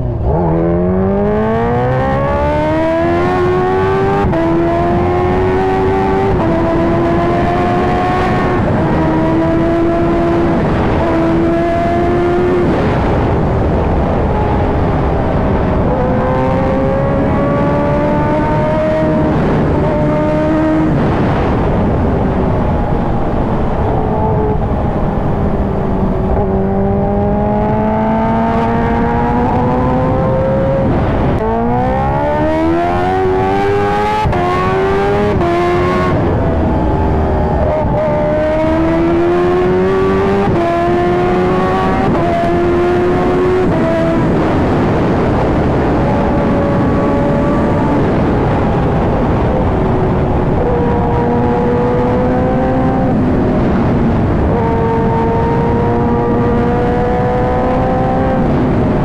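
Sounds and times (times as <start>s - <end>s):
motorcycle engine accelerating hard: 0.0s - 59.0s.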